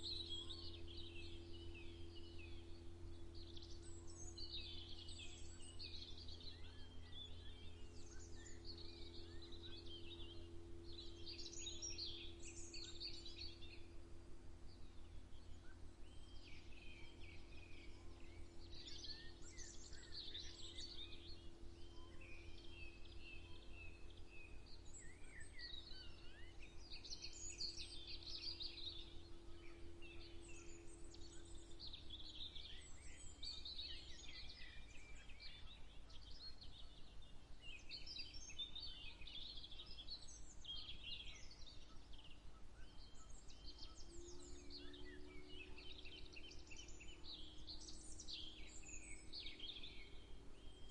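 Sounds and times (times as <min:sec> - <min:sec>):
faint steady hum: 0:00.0 - 0:50.9
songbirds singing and chirping: 0:00.0 - 0:50.9.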